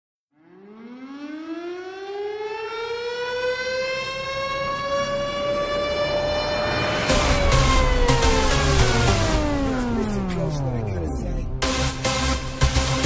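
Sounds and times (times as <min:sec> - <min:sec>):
siren-like wail rising in pitch: 0:00.3 - 0:12.8.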